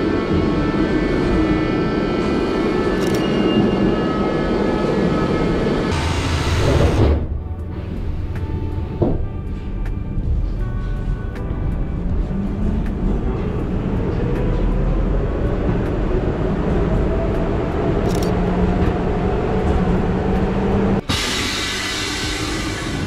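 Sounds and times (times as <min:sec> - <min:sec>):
metro train rumble: 0:00.0 - 0:23.0.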